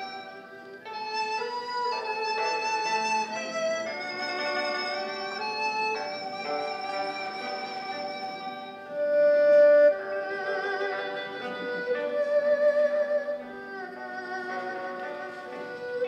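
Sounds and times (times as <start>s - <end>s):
bamboo flute: 0.0s - 16.0s
erhu melody with vibrato: 0.0s - 16.0s
hammered dulcimer: 0.0s - 16.0s.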